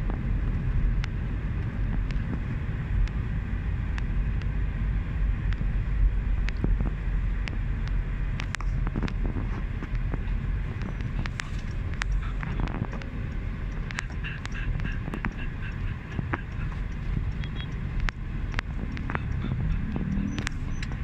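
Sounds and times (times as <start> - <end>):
car road and engine rumble: 0.0 - 21.0
light clicks and ticks: 0.1 - 3.2, 6.3 - 21.0.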